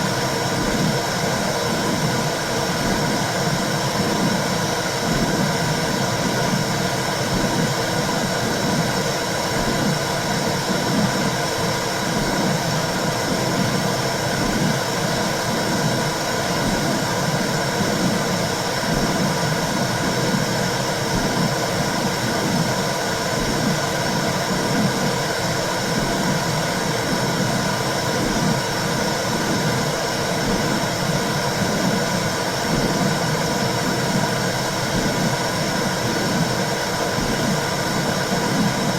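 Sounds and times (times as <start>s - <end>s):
low rhythmic heartbeat pulse: 0.4s - 38.9s.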